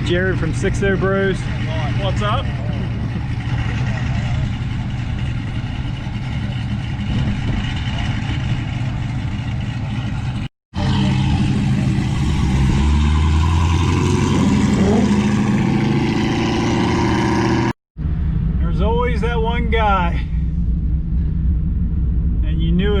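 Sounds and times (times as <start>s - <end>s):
engine deep drone: 0.0s - 23.0s
truck engine rumble: 0.0s - 23.0s.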